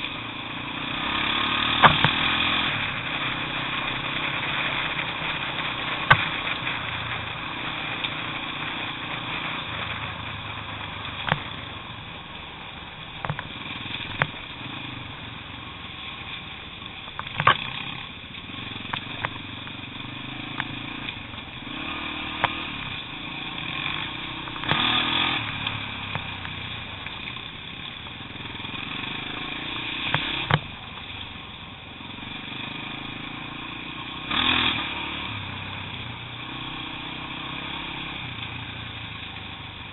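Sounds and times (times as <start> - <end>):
motorcycle knocking and rattling: 0.0 - 34.7
motorcycle engine revving: 0.0 - 39.9.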